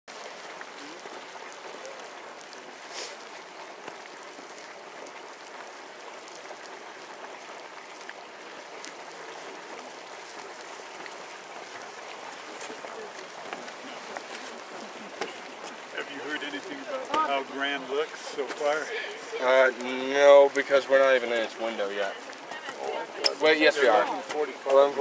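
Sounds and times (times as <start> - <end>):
geyser splashing: 0.1 - 25.0.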